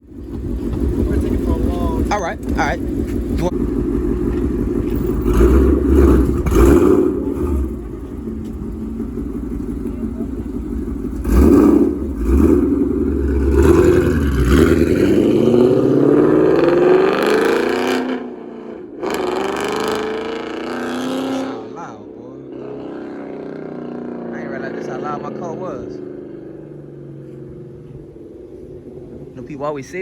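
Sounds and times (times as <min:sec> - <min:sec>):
car engine revving loud exhaust: 0:00.0 - 0:30.0.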